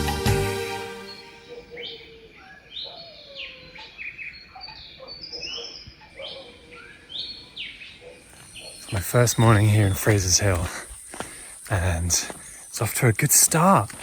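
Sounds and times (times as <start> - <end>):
wild birds calling: 1.0 - 14.0.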